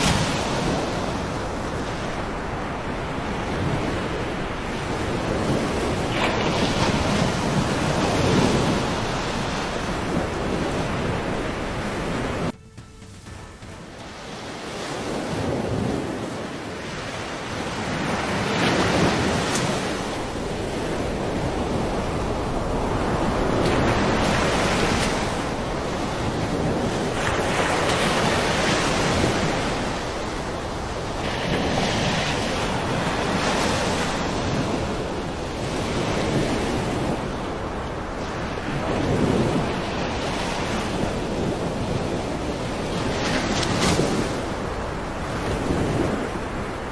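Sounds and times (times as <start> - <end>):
wind buffeting microphone: 0.0 - 12.6, 13.8 - 46.9.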